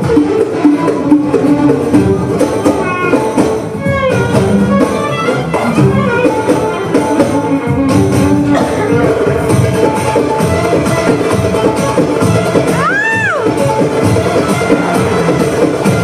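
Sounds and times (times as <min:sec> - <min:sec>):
ornamented melody line: 0:00.0 - 0:12.8
hand percussion: 0:00.0 - 0:16.0.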